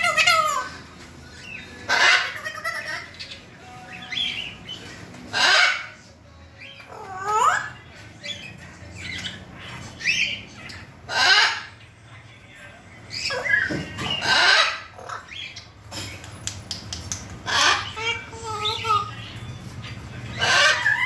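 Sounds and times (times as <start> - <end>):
parrot squawking: 0.0 - 0.8, 1.4 - 11.9, 13.1 - 16.1, 17.4 - 21.0.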